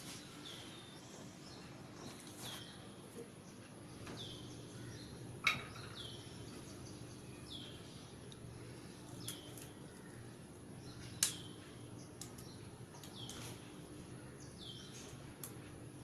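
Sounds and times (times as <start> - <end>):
small bird chirping: 0.1 - 15.5.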